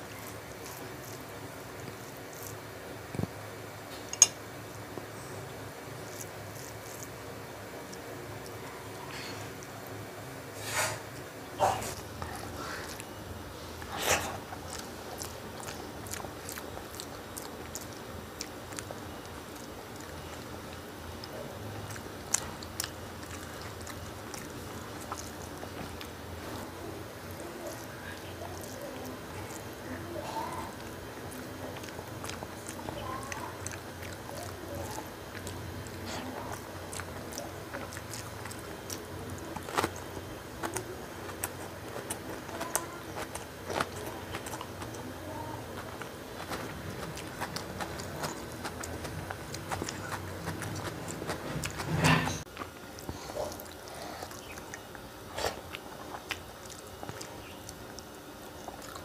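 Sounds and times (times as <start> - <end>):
wet chewing: 0.0 - 59.0.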